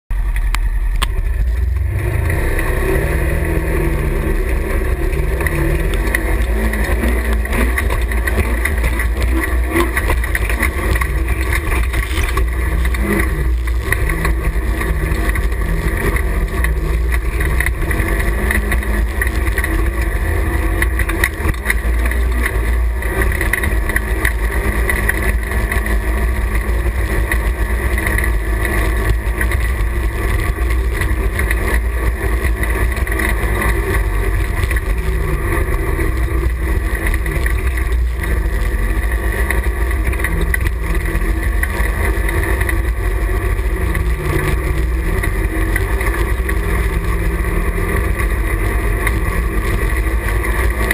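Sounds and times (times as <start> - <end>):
utility vehicle engine rumbling: 0.1 - 50.9.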